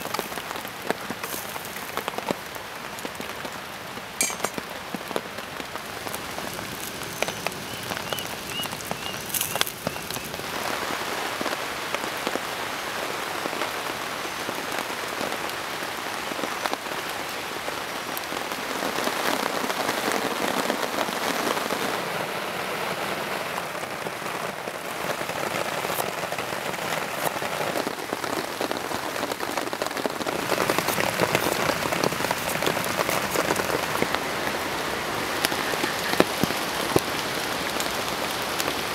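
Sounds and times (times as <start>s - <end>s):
heavy rain on tarp and leaves: 0.0s - 38.9s.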